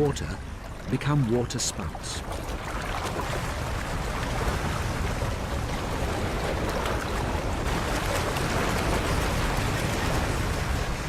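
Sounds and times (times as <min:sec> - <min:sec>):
churning water: 0:00.0 - 0:11.0
wind roaring: 0:00.0 - 0:11.0.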